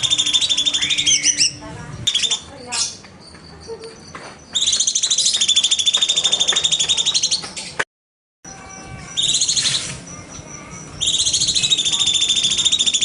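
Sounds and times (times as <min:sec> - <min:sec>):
bird high-pitched trill: 0:00.0 - 0:07.7, 0:08.5 - 0:13.0
high bird calls: 0:00.0 - 0:07.8, 0:08.5 - 0:13.0.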